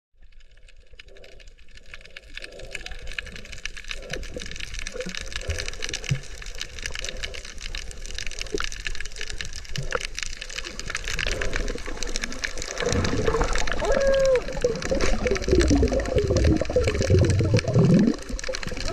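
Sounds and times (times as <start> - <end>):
underwater crackle: 0.1 - 18.9
low underwater rumble: 0.2 - 18.9.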